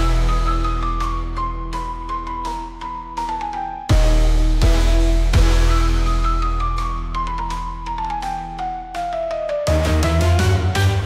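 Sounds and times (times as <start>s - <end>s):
heavy soundtrack music: 0.0s - 11.0s.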